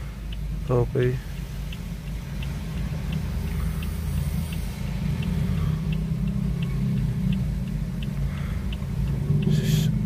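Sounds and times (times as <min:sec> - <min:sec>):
car engine idling: 0:00.0 - 0:10.0
faint even ticking: 0:00.0 - 0:10.0.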